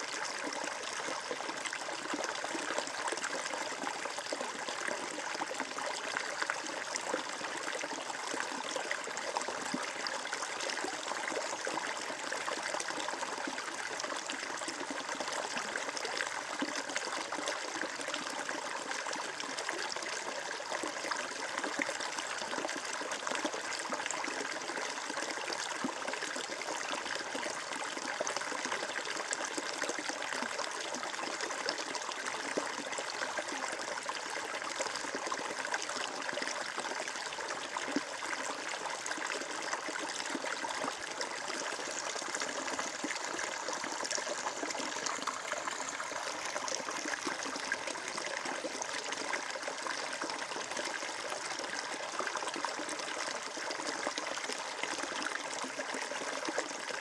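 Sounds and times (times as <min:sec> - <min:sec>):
water babbling in a stream: 0:00.0 - 0:57.0.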